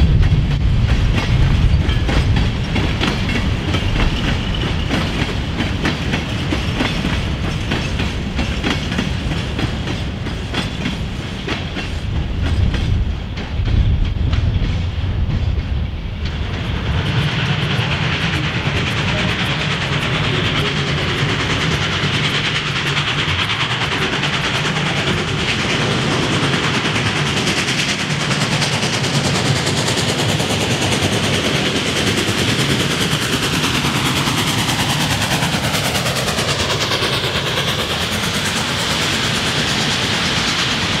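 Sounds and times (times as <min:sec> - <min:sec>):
train wheels on rail: 0:00.0 - 0:41.0.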